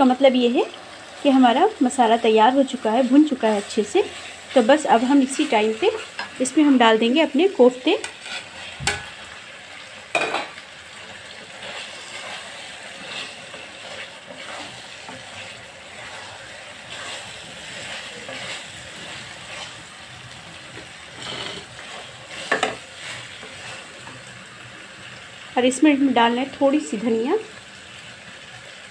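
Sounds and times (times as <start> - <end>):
gravy sizzling in oil: 0.0 - 28.9.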